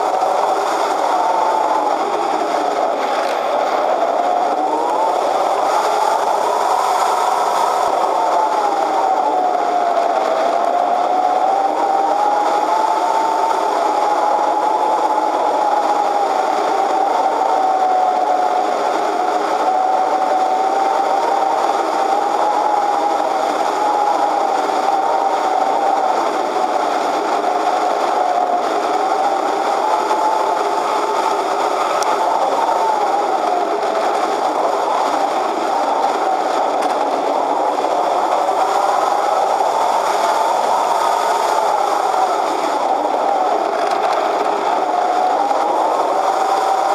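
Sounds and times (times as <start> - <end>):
electric motor and propeller whine: 0.0 - 46.9
wind and airframe noise: 0.0 - 46.9.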